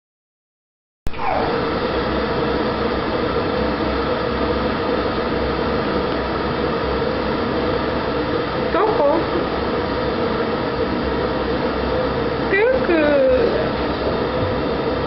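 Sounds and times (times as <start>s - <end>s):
mechanical hum and rumble: 1.1s - 15.0s.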